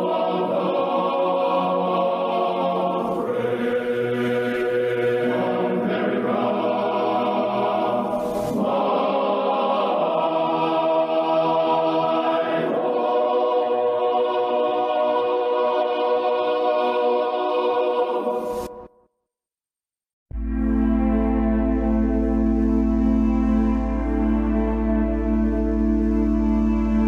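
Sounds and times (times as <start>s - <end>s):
choir singing sustained chords: 0.0s - 18.9s, 20.3s - 27.0s.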